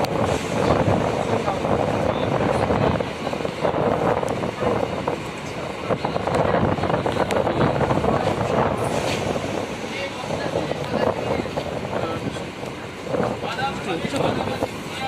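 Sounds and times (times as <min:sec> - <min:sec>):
passenger train rumbling and rattling: 0:00.0 - 0:15.0.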